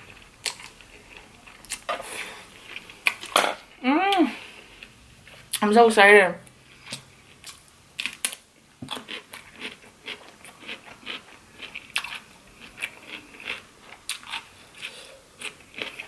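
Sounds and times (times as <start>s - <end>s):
person chewing food: 0.0s - 3.4s, 4.4s - 5.6s, 6.5s - 16.0s.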